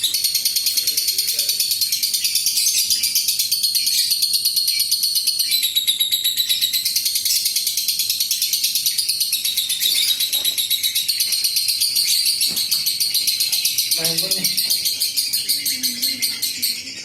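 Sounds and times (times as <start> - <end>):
lovebird chattering: 0.0 - 17.0.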